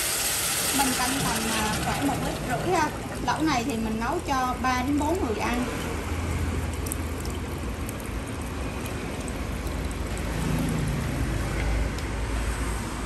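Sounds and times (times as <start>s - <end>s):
water pouring into metal pot: 0.0s - 12.7s.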